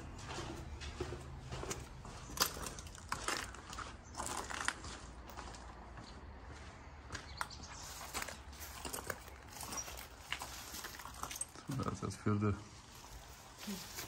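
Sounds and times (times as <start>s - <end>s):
footsteps crunching over rubble: 0.0s - 14.0s.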